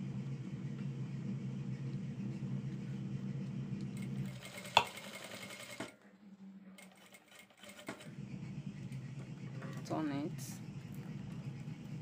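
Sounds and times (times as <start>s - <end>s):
sewing machine humming: 1.0s - 12.0s.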